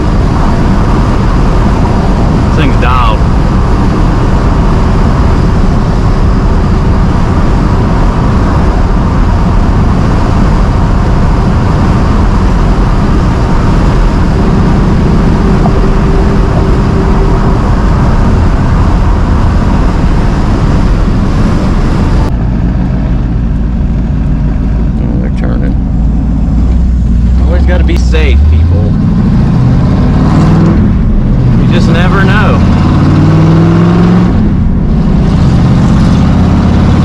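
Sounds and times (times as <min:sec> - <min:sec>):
car engine driving: 0:00.0 - 0:37.0
road noise: 0:00.0 - 0:37.0.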